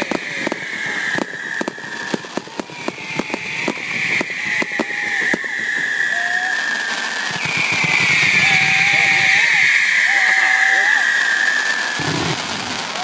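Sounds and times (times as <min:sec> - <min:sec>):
fireworks bangs: 0:00.0 - 0:13.0
high falling whistle: 0:00.0 - 0:13.0.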